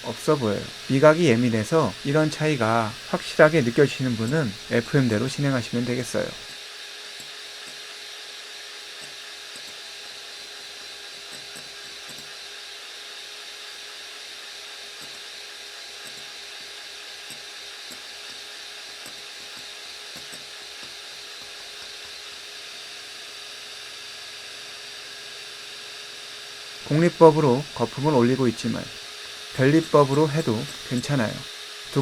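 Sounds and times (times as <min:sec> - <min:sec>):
electric hand mixer whining: 0:00.0 - 0:32.0.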